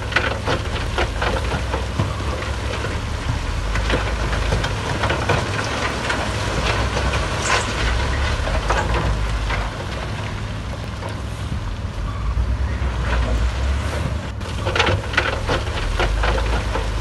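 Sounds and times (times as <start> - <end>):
diesel engine rumble: 0.0 - 17.0
machinery clanks and rattles: 0.0 - 17.0.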